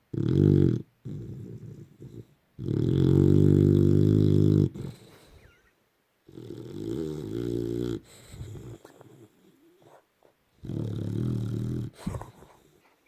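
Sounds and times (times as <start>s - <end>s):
dog snoring: 0.1s - 5.5s, 6.3s - 10.0s, 10.6s - 12.9s.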